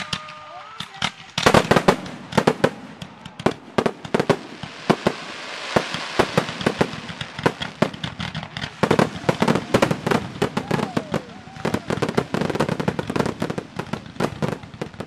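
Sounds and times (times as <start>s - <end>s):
fireworks bangs: 0.0s - 15.0s
fireworks hiss: 1.4s - 15.0s.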